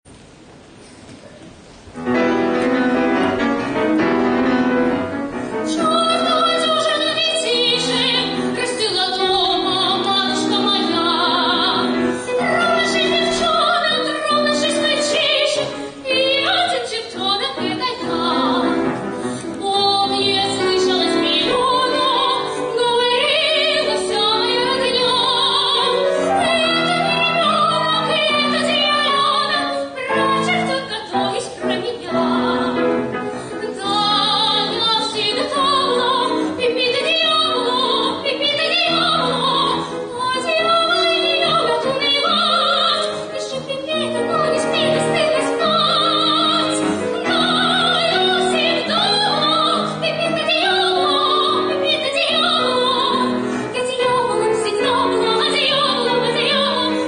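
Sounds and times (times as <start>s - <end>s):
piano accompaniment: 1.8s - 57.0s
woman singing with vibrato: 5.5s - 57.0s.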